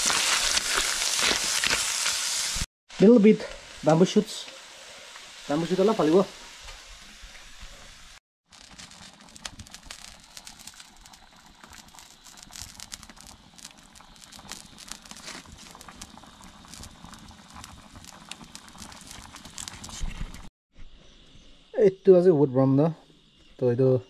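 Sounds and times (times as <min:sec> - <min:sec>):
wood fire crackling: 0:00.0 - 0:20.5.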